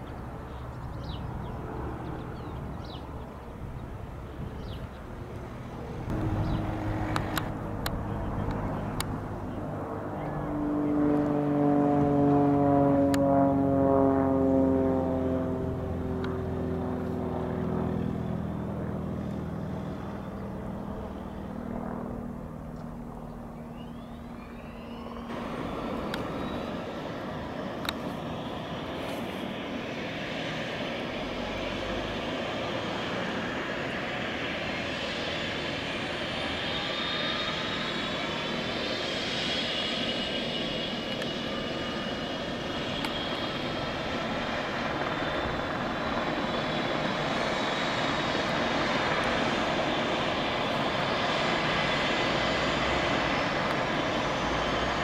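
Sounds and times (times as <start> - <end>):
helicopter turbine idling: 0.0 - 55.0
propeller plane passing overhead: 0.0 - 55.0.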